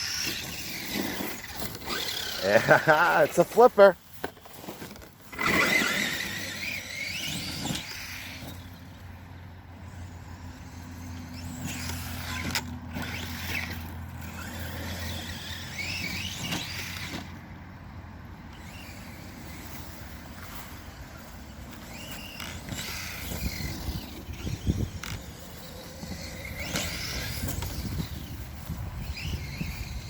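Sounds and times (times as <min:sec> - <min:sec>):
toy truck electric motor whining: 0:00.0 - 0:30.0.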